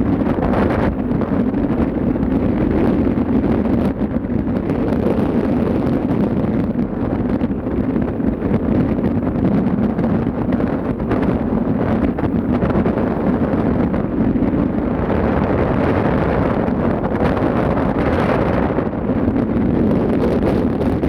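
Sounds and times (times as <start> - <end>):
ship engine rumble: 0.0 - 21.0
wind buffeting microphone: 0.0 - 21.0.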